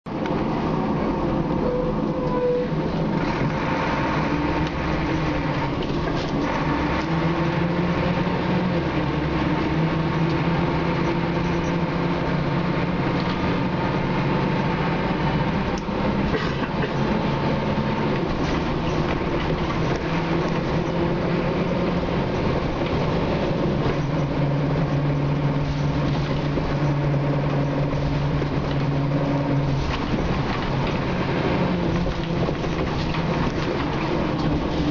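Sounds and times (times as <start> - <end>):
road noise: 0.0 - 34.9
bus diesel engine running: 0.1 - 34.9.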